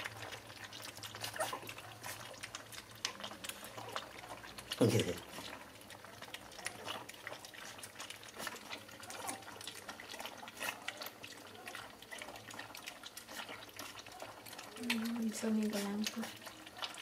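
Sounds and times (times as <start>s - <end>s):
puppies lapping milk: 0.0s - 17.0s.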